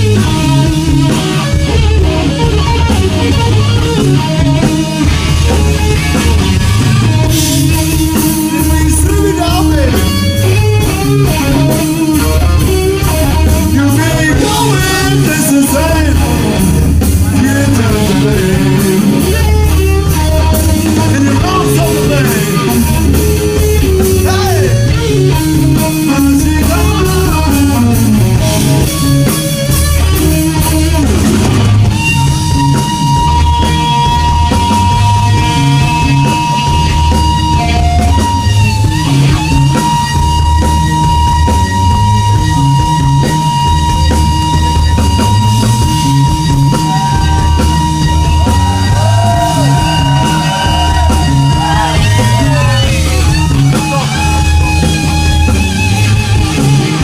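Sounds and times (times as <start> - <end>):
rock music with electric guitar: 0.0 - 57.0.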